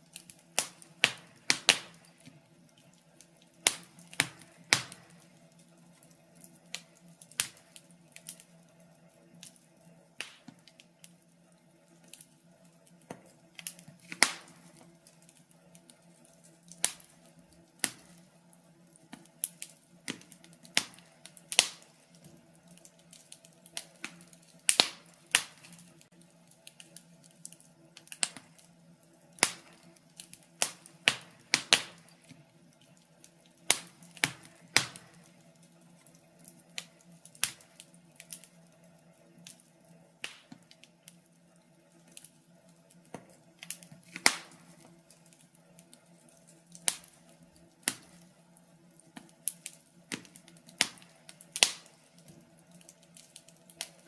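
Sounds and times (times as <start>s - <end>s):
faint steady hum: 0.0s - 54.0s
wood fire crackling and popping: 0.0s - 54.0s.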